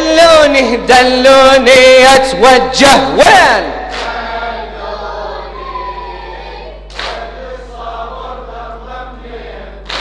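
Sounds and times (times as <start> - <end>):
congregation chanting in unison: 0.0 - 10.0.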